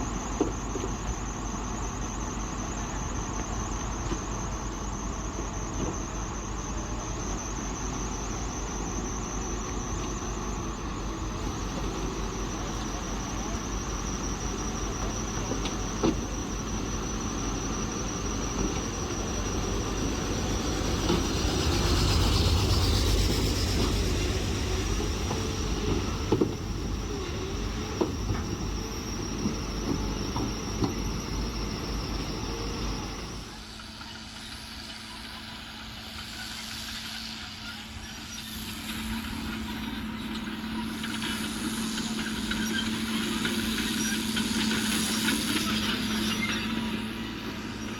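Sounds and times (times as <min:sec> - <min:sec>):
bulldozer diesel engine running: 0:00.0 - 0:47.9
thin high whine: 0:01.0 - 0:47.9.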